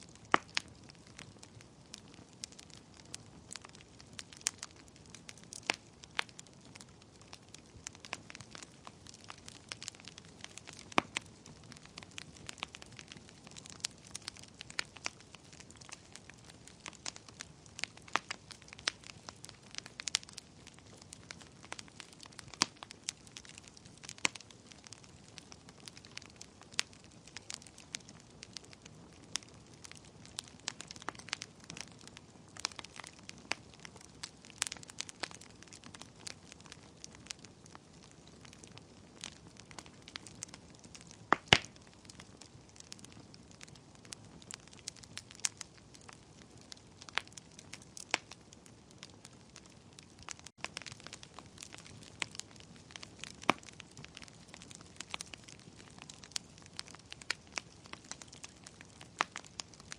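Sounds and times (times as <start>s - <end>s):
faint fire hiss: 0.0s - 59.9s
wood fire crackling and popping: 0.0s - 59.9s.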